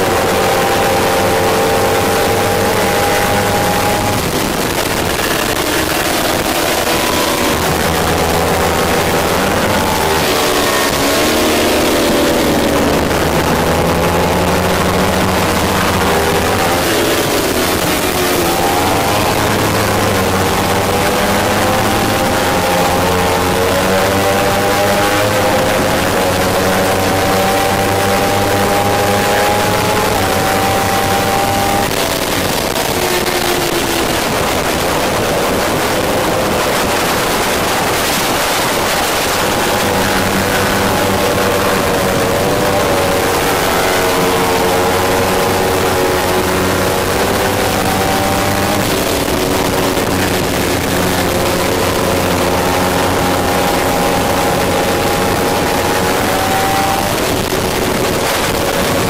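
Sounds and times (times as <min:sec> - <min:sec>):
motorcycle engine running hard: 0:00.0 - 0:59.0
wind and road noise: 0:00.0 - 0:59.0.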